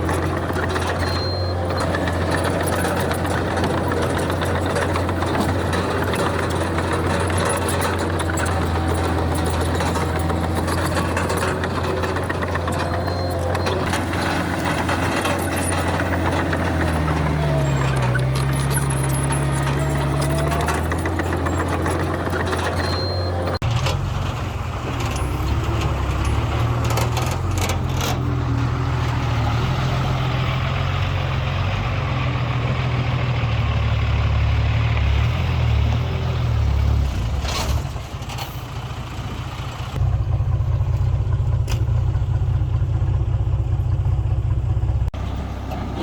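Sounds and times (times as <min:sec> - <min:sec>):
diesel construction machinery running: 0:00.0 - 0:46.0.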